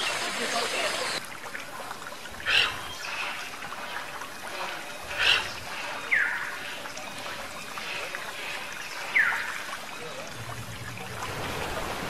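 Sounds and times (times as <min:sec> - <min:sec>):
stream-like rush: 0:00.0 - 0:12.0.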